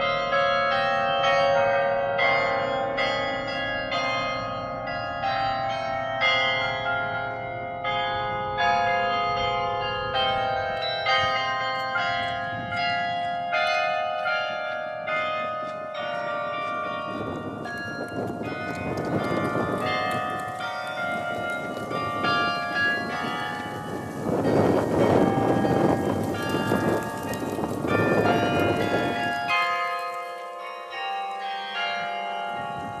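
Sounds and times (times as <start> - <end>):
carillon bells melody: 0.0 - 33.0.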